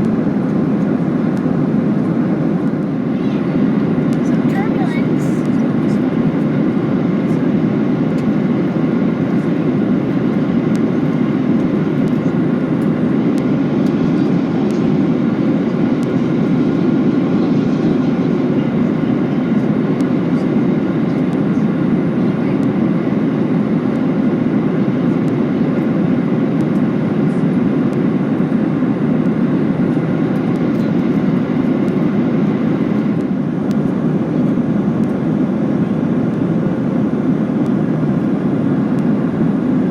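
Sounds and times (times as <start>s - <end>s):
air rushing along fuselage: 0.0s - 39.9s
jet engines droning: 0.0s - 39.9s.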